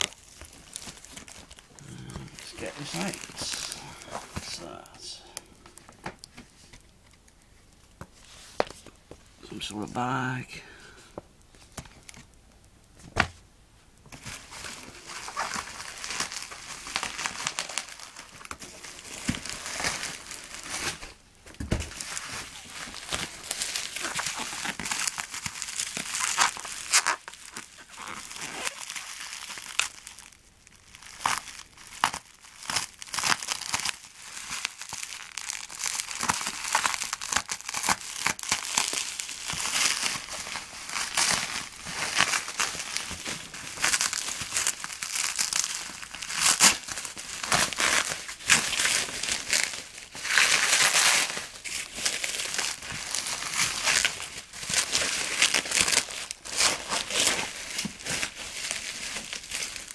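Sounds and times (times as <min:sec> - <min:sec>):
plastic packaging crinkling: 0:00.0 - 0:10.4, 0:14.1 - 0:59.9.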